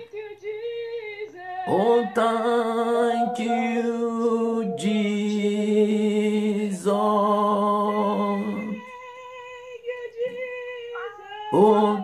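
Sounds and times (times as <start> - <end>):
solo voice singing a chant: 0.0 - 12.0.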